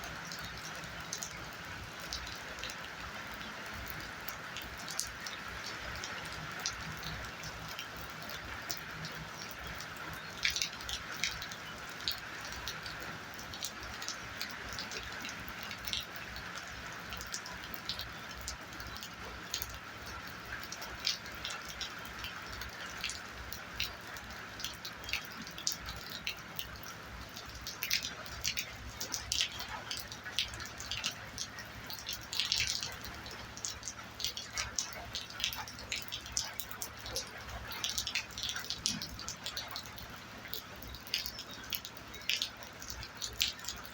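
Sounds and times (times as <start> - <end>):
raindrops ticking close by: 0.0 - 43.9.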